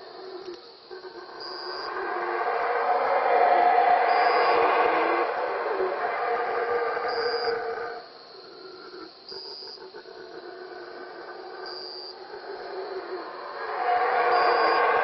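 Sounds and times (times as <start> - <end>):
howler monkeys roaring: 0.0 - 15.0.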